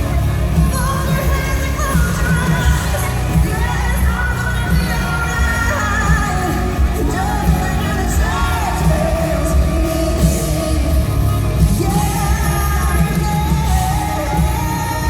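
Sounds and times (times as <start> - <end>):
live country-rock band: 0.0 - 15.0
woman singing: 0.0 - 15.0.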